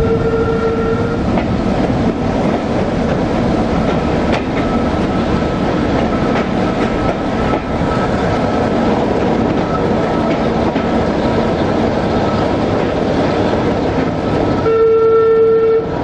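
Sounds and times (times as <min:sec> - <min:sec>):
wheels rumbling on rail: 0:00.0 - 0:16.0
wheels knocking on rails: 0:01.3 - 0:14.3.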